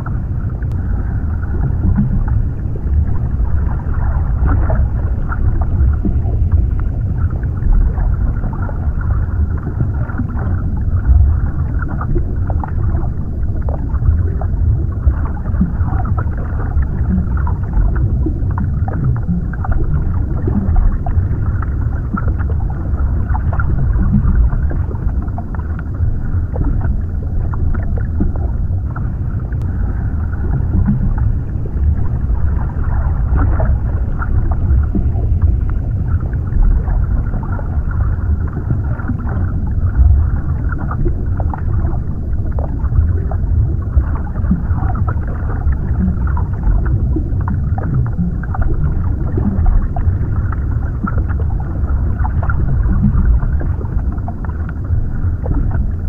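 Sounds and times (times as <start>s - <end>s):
deep underwater rumble: 0.0s - 56.0s.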